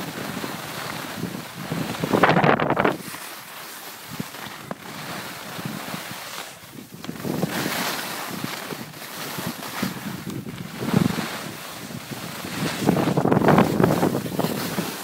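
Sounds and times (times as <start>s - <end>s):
wind on microphone: 0.0s - 3.2s, 4.0s - 15.0s
skis scraping over snow: 0.0s - 15.0s.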